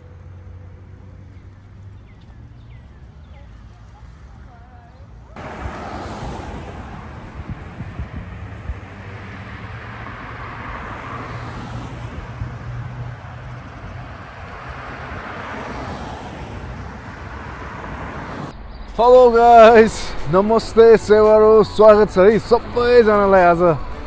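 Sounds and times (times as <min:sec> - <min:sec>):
cars driving past: 0:00.0 - 0:04.5, 0:05.2 - 0:24.0.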